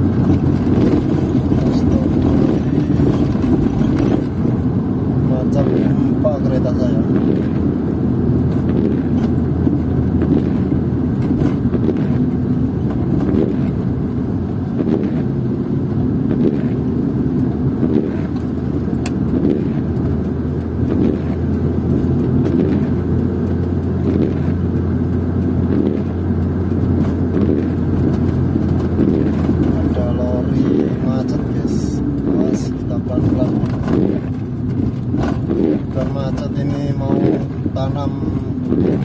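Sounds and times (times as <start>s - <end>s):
car interior rattles: 0.0s - 39.0s
tyre and engine rumble: 0.0s - 39.0s.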